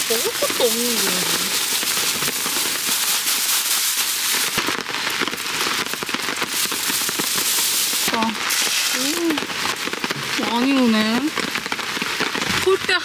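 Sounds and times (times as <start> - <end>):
heavy rain on tarp: 0.0 - 13.0.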